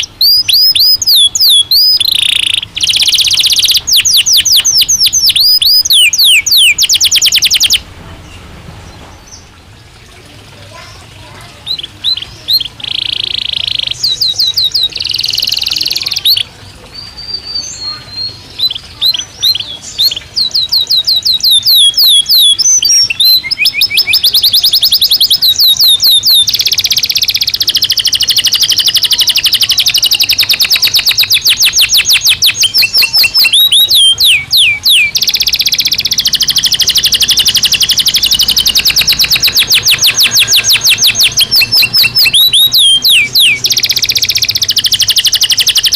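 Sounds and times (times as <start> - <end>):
canary singing trills: 0.0 - 9.9, 10.6 - 45.9.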